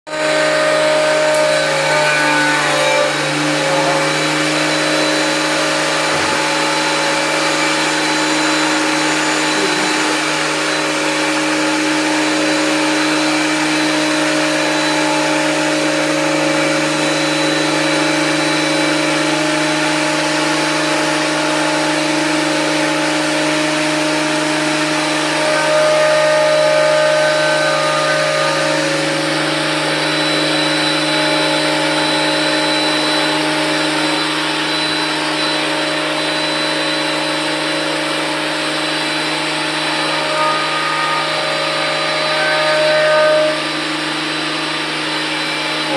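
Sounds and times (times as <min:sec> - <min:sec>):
thickness planer motor whine: 0:00.1 - 0:45.9.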